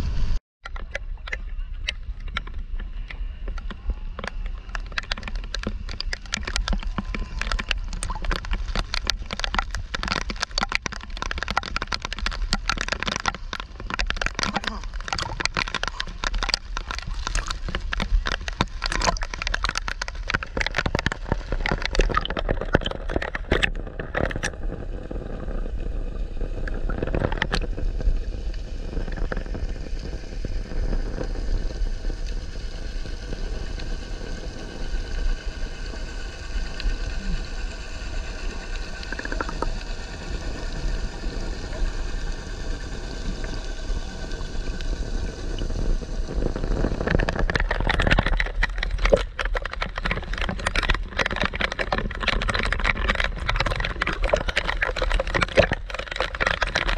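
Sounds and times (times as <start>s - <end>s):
faint steady hum: 0.0s - 56.9s
muffled underwater hiss: 0.0s - 56.9s
water splashing against camera: 0.0s - 56.9s.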